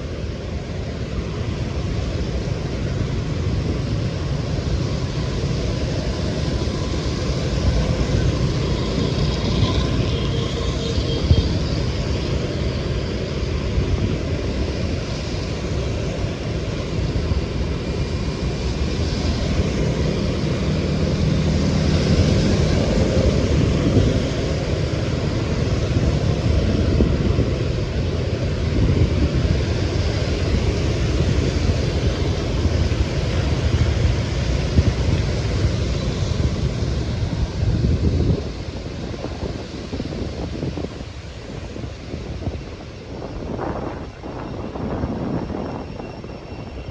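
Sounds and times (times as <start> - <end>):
street traffic rumble: 0.0 - 46.9
wind noise on microphone: 0.0 - 46.9.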